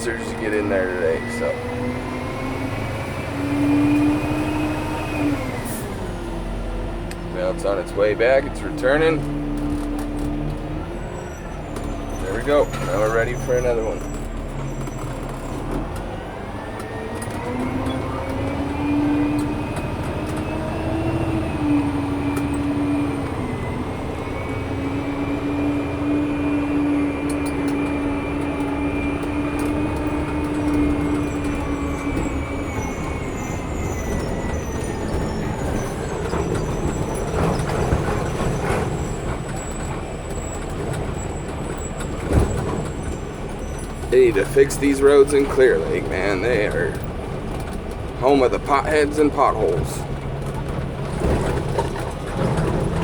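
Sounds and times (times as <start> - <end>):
diesel truck engine running: 0.0 - 53.0.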